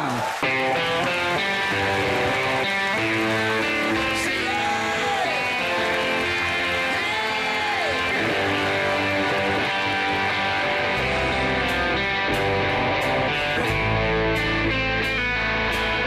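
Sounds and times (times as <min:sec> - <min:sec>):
bending lead guitar line: 0:00.4 - 0:16.0
guitar chords ringing: 0:00.4 - 0:16.0
live rock band playing: 0:00.4 - 0:16.0.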